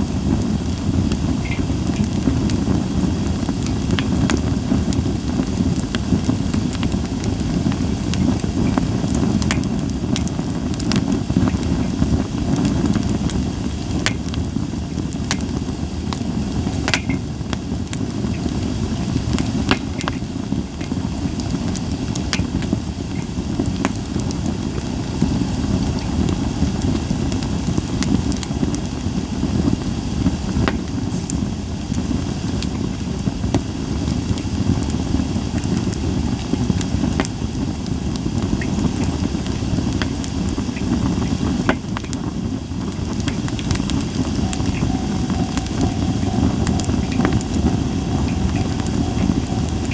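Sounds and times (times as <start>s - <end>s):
campfire popping and crackling: 0.0s - 49.9s
steady low rumble: 0.0s - 49.9s.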